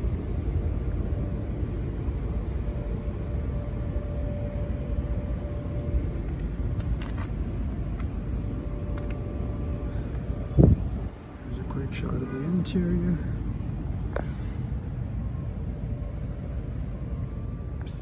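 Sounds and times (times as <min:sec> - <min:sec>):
faint steady hum: 0:00.0 - 0:18.0
low outdoor rumble: 0:00.0 - 0:18.0.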